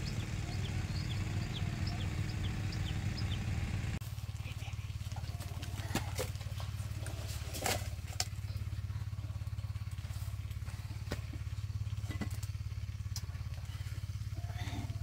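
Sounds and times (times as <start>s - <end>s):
small engine throbbing: 0.0s - 15.0s.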